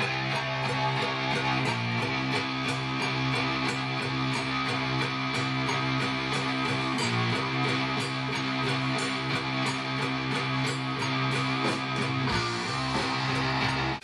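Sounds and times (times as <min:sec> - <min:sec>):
heavy rock music with electric guitar: 0:00.0 - 0:14.0.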